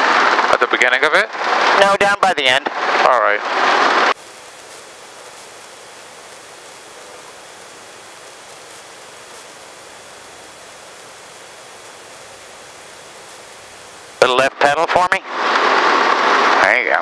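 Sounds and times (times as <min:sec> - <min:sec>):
helicopter cabin hiss: 0:02.7 - 0:17.0.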